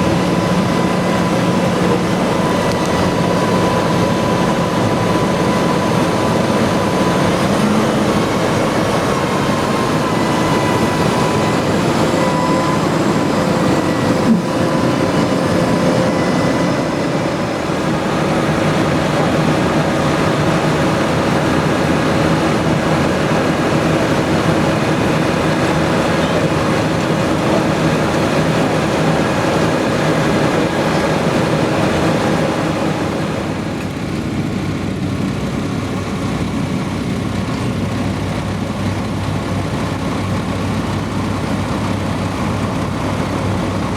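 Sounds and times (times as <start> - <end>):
tractor engines droning: 0.0 - 43.9.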